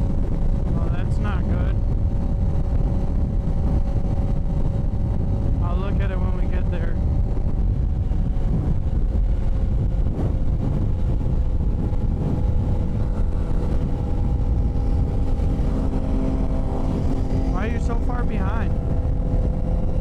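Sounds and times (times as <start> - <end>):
motorcycle engine droning: 0.0 - 20.0
wind rumble on microphone: 0.0 - 20.0.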